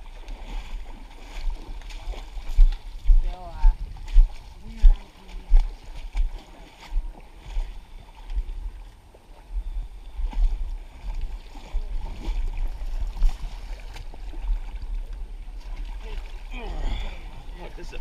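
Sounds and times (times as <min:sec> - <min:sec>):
water sloshing and splashing: 0:00.0 - 0:18.0
wind rumble on microphone: 0:00.0 - 0:18.0.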